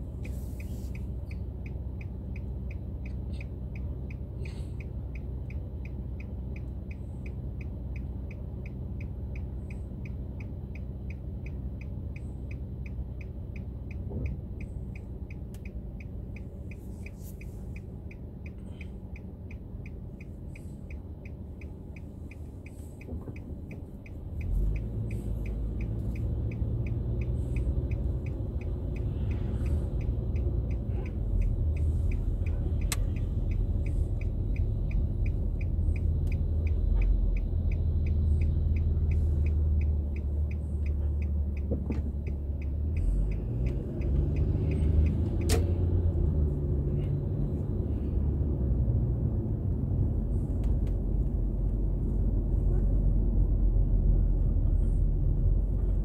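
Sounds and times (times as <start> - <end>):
car engine and road rumble: 0.0 - 56.0
turn signal ticking: 0.0 - 56.0.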